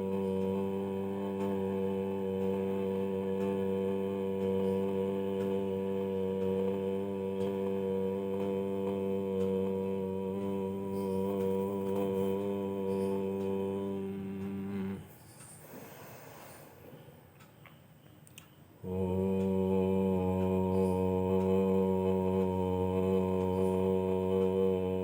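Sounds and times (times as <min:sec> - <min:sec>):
person chanting om: 0:00.0 - 0:15.3, 0:18.8 - 0:25.0.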